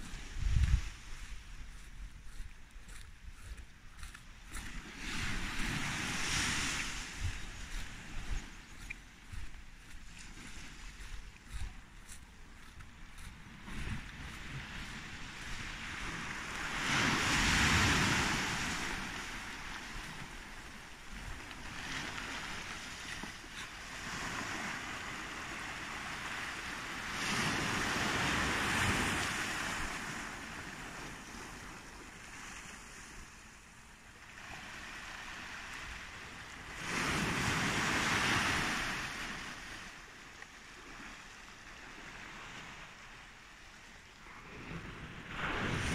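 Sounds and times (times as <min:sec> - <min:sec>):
small waves breaking on beach: 0:00.0 - 0:45.9.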